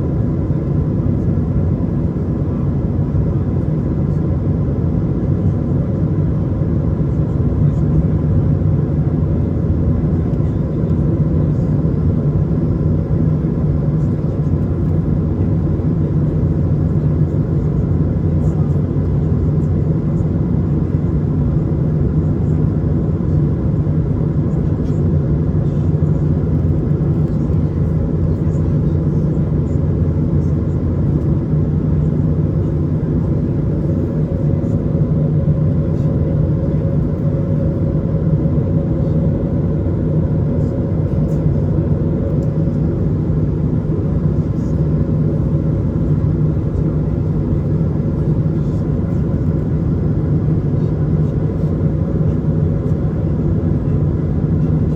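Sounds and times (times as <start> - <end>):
airliner cabin engine roar: 0.0 - 54.9.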